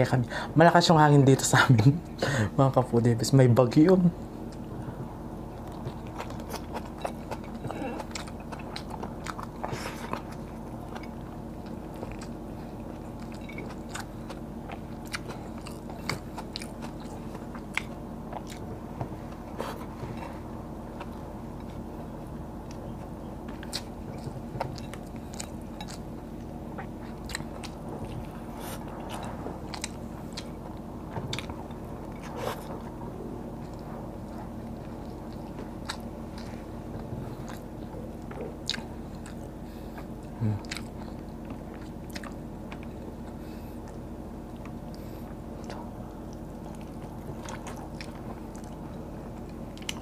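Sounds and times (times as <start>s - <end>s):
steady low hum: 0.0s - 50.0s
chewing and biting food: 5.4s - 50.0s.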